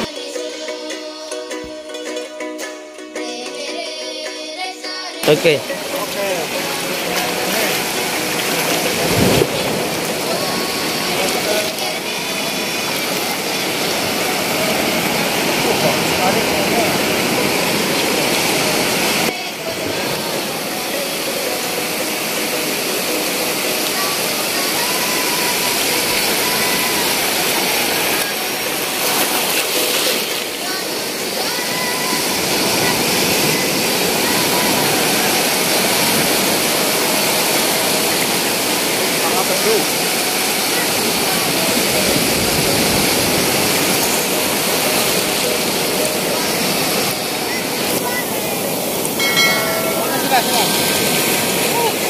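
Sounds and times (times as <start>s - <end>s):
surf rushing: 5.2s - 52.0s
wave washing and crackling: 5.2s - 52.0s.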